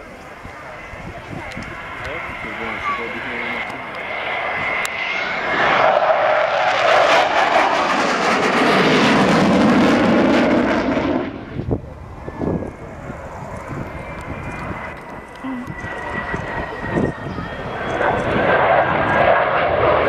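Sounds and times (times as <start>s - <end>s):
loud jet passing: 0.6s - 20.0s.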